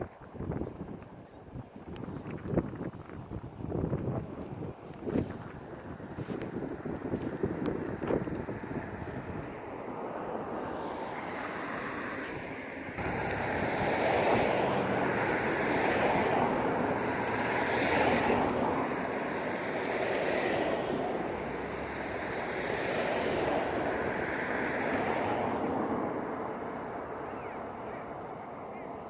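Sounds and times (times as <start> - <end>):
aircraft engine roar: 5.2 - 29.0.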